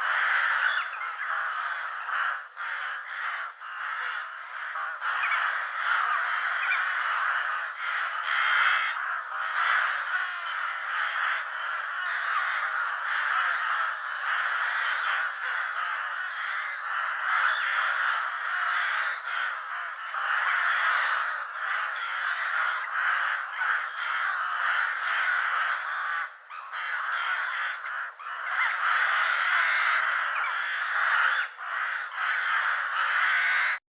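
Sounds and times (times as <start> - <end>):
crows cawing: 0.0 - 33.8.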